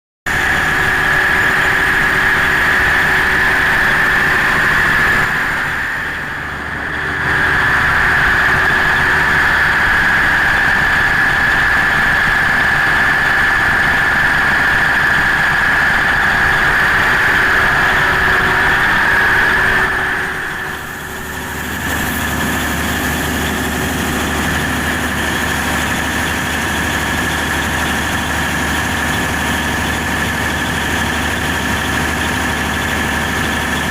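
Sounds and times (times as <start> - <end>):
diesel generator engine drone: 0.3 - 33.9
high whine: 0.3 - 33.9.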